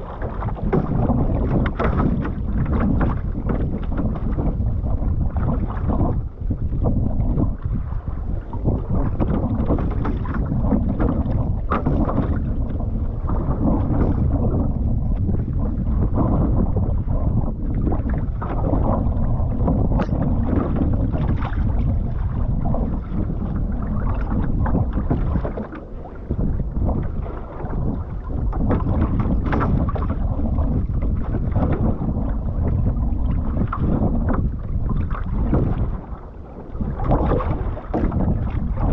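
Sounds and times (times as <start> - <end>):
paddle splashes: 0.0 - 38.9
water washing along canoe: 0.0 - 38.9
wind buffeting microphone: 0.0 - 38.9.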